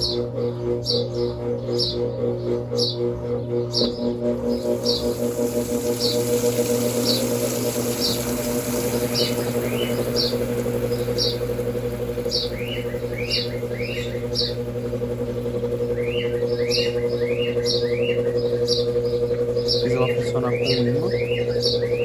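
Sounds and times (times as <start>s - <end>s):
bird chirping: 0.0s - 22.0s
lower arching bird calls: 0.0s - 22.0s
washing machine motor humming: 0.0s - 22.0s.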